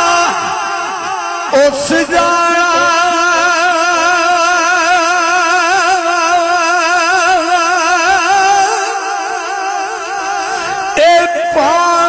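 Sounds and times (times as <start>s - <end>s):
man singing a long vibrato note: 0.0s - 12.0s.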